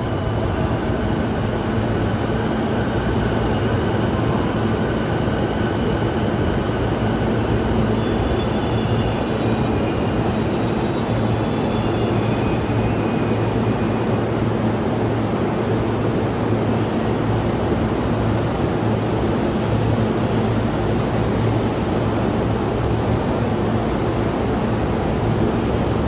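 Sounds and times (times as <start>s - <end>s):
train motors and wheels rumbling: 0.0s - 26.0s.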